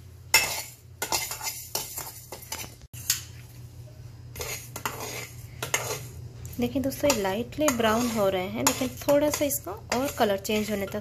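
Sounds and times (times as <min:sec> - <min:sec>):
steel spoon scraping rice in pan: 0:00.3 - 0:03.2, 0:04.3 - 0:06.2, 0:06.9 - 0:11.0.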